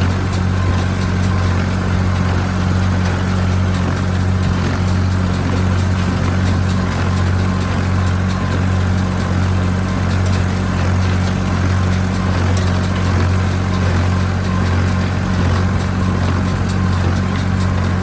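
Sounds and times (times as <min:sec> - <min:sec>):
baler machinery clicks: 0:00.0 - 0:18.0
tractor engine running under load: 0:00.0 - 0:18.0.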